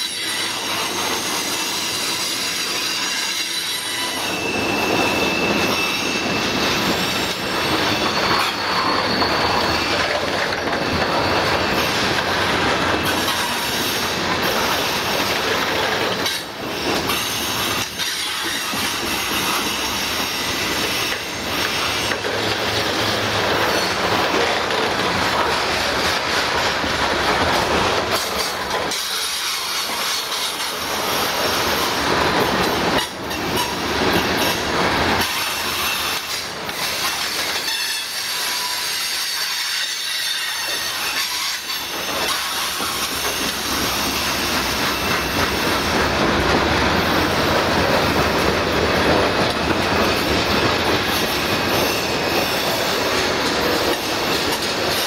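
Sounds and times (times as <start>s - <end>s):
high wheel squeal: 0.0s - 55.0s
train wheels rumbling on rail: 0.0s - 55.0s.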